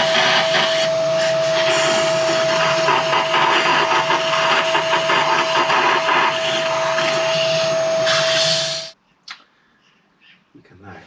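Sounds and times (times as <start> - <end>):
electric motor whining: 0.0 - 9.0.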